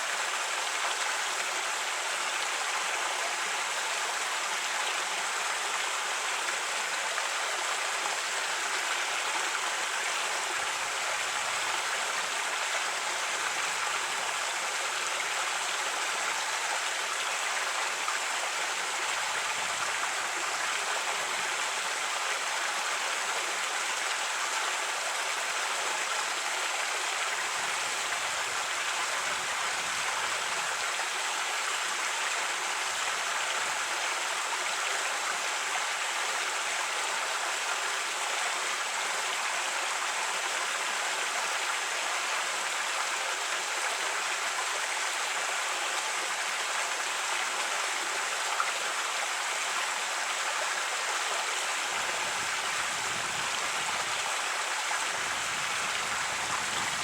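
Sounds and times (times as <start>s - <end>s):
creek water over rocks: 0.0s - 57.0s.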